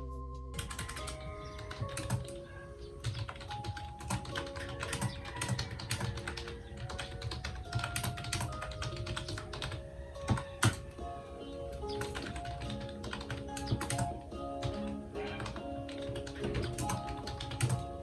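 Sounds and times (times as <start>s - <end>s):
computer keyboard typing: 0.6s - 11.0s, 11.6s - 18.0s.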